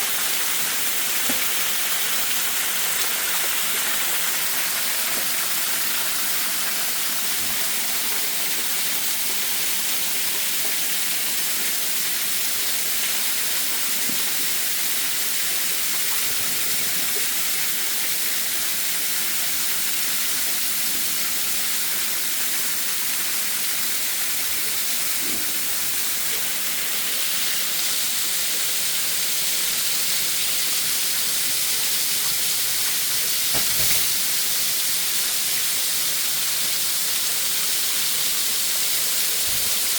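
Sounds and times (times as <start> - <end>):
waterfall hiss: 0.0 - 39.9.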